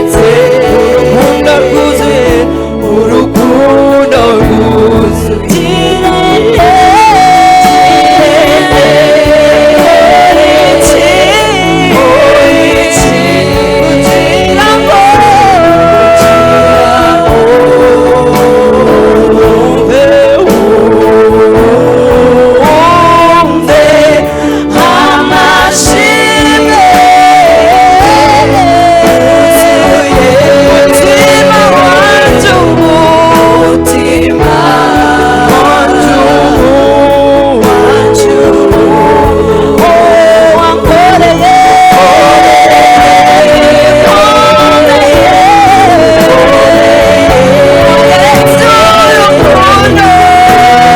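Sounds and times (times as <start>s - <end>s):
backing voices singing: 0.0s - 50.9s
bass: 0.0s - 50.9s
keyboard: 0.0s - 50.9s
solo voice singing: 0.0s - 50.9s.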